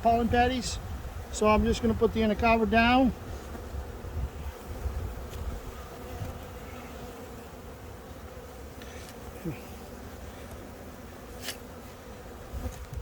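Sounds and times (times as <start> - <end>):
honey bees buzzing: 0.0 - 13.0
bee buzzing past: 0.5 - 13.0.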